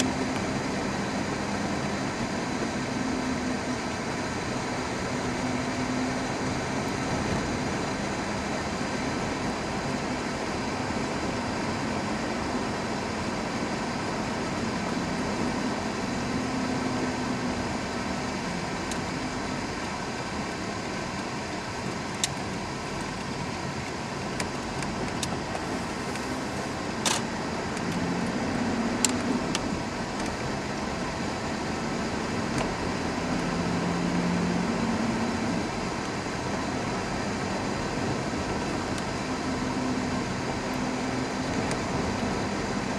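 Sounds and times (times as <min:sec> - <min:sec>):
car engine and tyre drone: 0:00.0 - 0:42.9.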